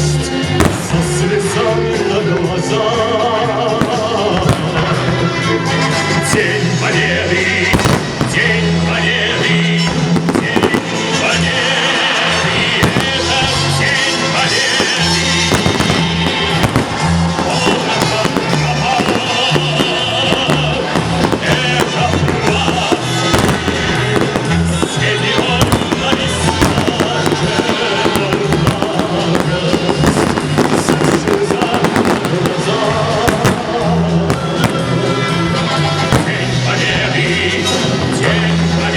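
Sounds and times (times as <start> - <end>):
music with steady beat: 0.0 - 38.9
fireworks bangs and crackling: 0.2 - 38.9.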